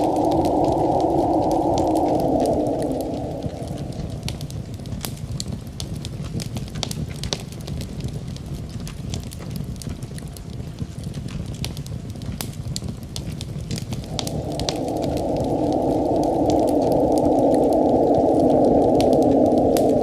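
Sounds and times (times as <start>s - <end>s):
low rush of wind: 0.0s - 20.0s
wood fire crackling: 0.0s - 20.0s.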